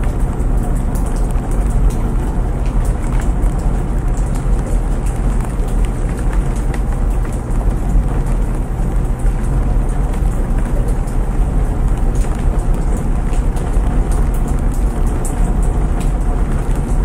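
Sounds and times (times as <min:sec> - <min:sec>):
faint rain pattering: 0:00.0 - 0:17.0
washing machine tumbling: 0:00.0 - 0:17.0.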